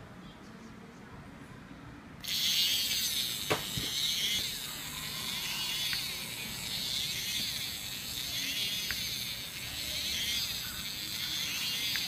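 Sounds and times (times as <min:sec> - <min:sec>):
electric gear motor buzzing: 0:02.2 - 0:12.0.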